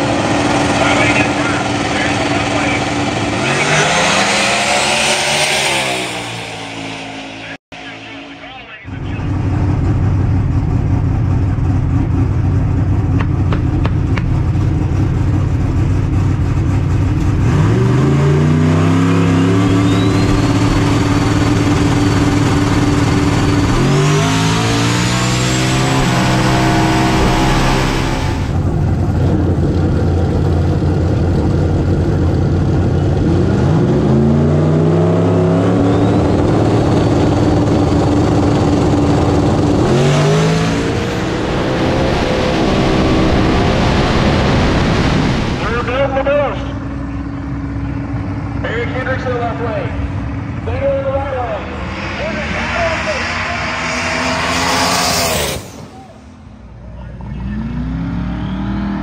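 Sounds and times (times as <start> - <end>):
drag car engine revving: 0.0 - 59.0.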